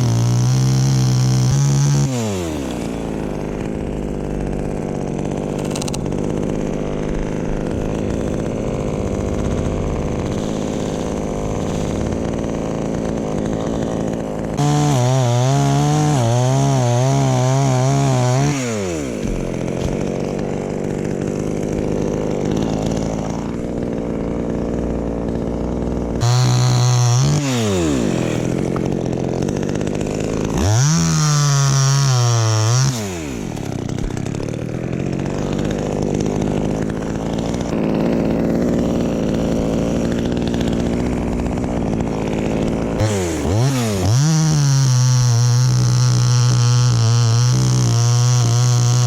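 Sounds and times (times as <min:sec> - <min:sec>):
chainsaw revving and idling: 0:00.0 - 0:49.0.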